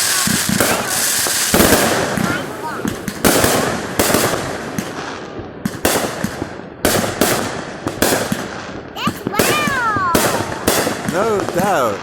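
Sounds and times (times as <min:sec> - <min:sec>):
fireworks bursting with echo: 0:00.0 - 0:12.0.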